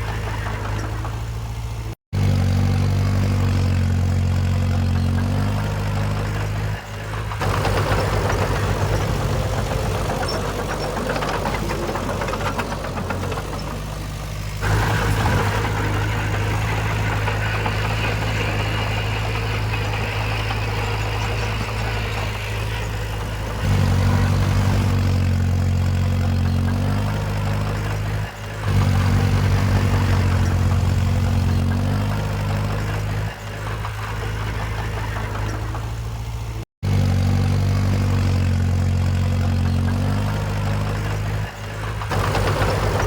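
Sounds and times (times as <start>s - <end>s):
machinery clattering: 0.0s - 36.6s, 38.0s - 43.0s
diesel engines running: 0.0s - 43.0s.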